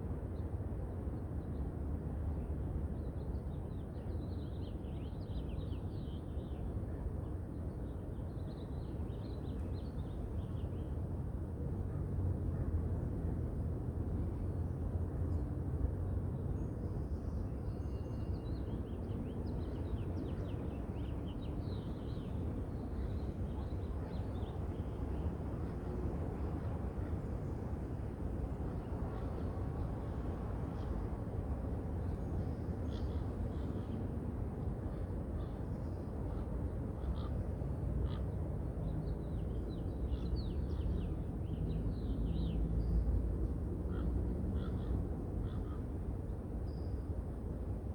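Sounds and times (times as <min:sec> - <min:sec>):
low rumble of wind: 0:00.0 - 0:47.9.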